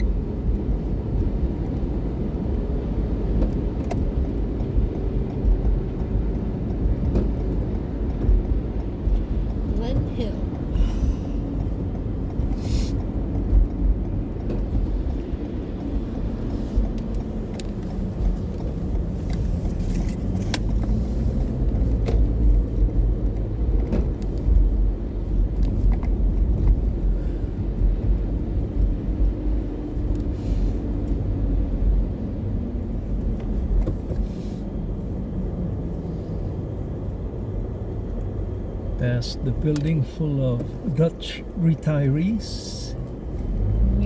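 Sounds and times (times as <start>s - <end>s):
car engine and tyre rumble: 0.0s - 44.0s.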